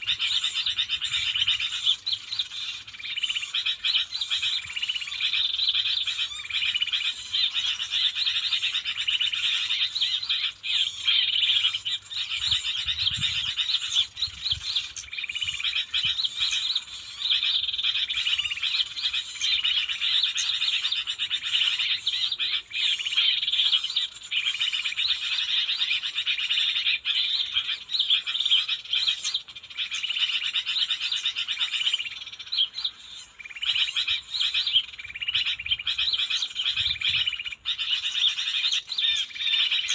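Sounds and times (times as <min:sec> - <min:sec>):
chorus of chirping animal calls: 0:00.0 - 0:39.9.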